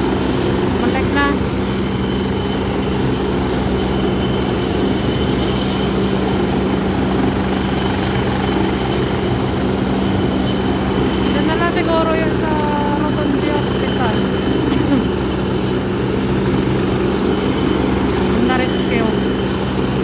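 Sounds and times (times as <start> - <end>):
helicopter rotor drone with whine: 0.0 - 20.0.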